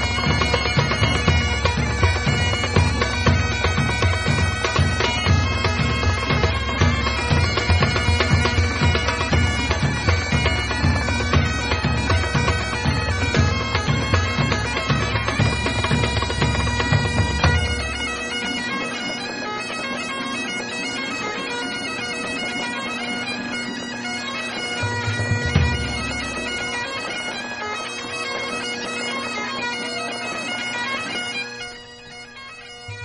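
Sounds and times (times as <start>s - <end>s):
bagpipe music: 0.0s - 33.0s.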